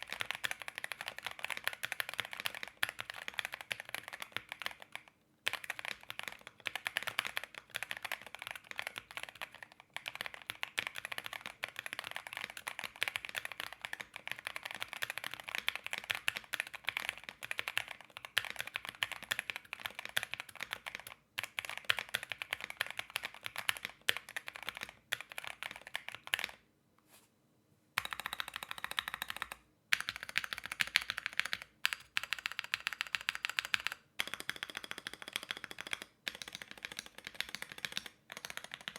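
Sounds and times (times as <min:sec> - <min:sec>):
mechanical keyboard typing: 0:00.0 - 0:26.6, 0:28.0 - 0:38.9.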